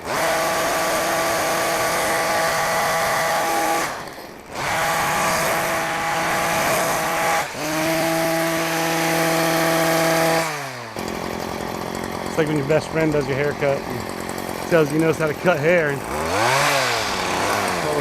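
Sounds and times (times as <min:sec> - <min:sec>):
hedge trimmer cutting grass: 0:00.0 - 0:18.0.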